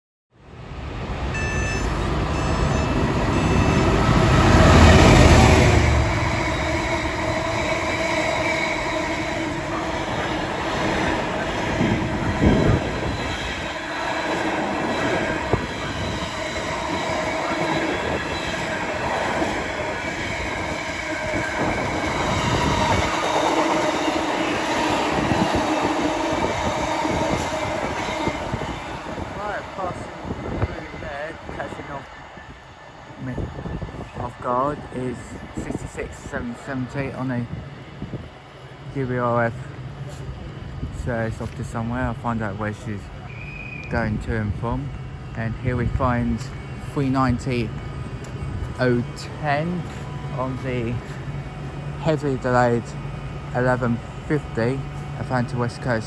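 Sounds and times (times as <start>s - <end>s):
train running: 0.5s - 56.0s.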